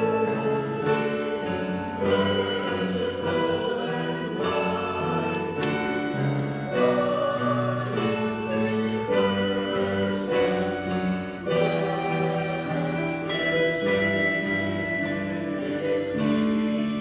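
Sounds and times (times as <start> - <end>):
handbell choir playing: 0.0 - 17.0.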